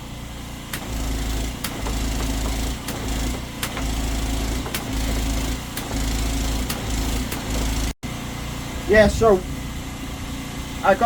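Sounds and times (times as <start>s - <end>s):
engine and pump loading up: 0.0s - 11.0s.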